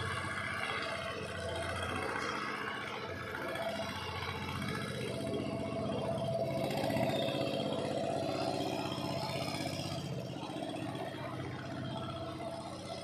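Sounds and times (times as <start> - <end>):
engine running with fast pulse: 0.0 - 13.0.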